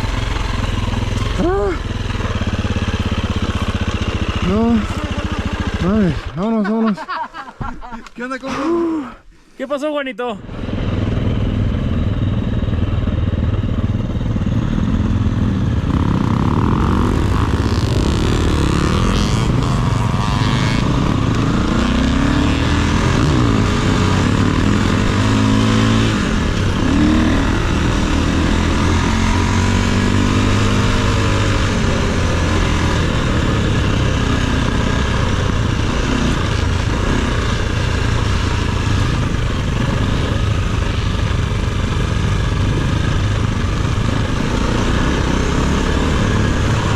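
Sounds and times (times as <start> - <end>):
dirt bike engine revving: 0.0 - 7.3, 10.4 - 46.9.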